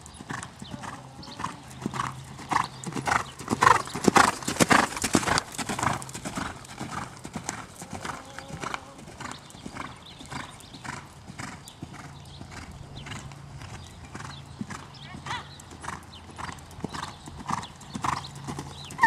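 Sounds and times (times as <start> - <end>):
horse hoofbeats on sand: 0.0 - 19.0.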